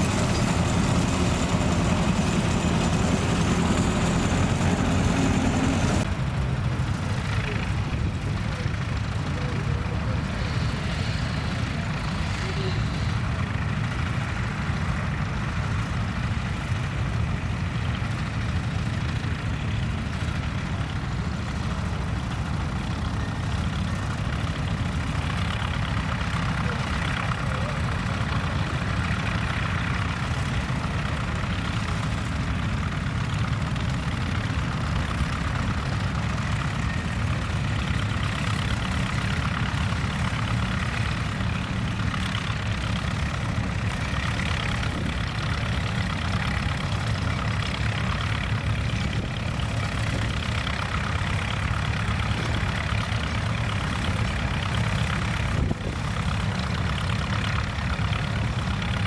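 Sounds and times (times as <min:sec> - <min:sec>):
tractor engine rumbling: 0:00.0 - 0:59.0.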